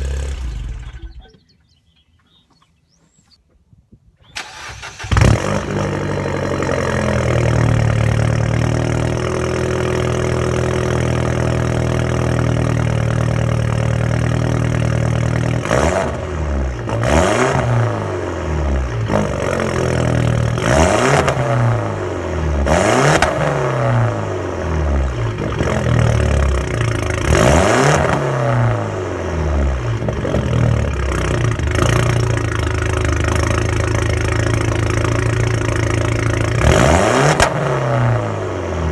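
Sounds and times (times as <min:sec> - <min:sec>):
car engine idling and revving: 0:00.0 - 0:02.5, 0:04.4 - 0:38.9.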